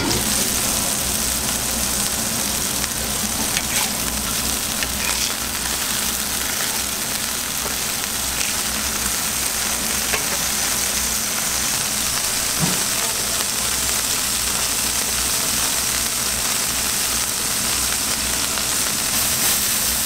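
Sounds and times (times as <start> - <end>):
patties sizzling on a griddle: 0.0 - 20.0.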